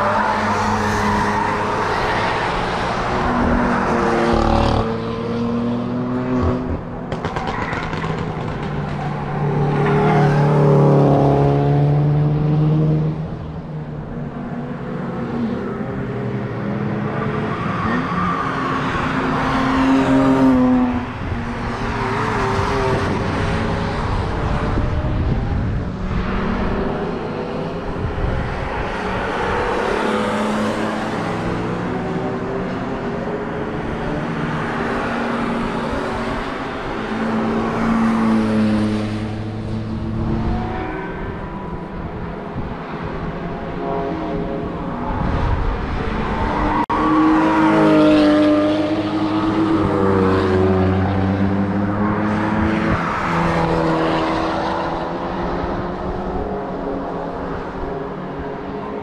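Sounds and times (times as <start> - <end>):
race cars driving past: 0.0 - 59.0.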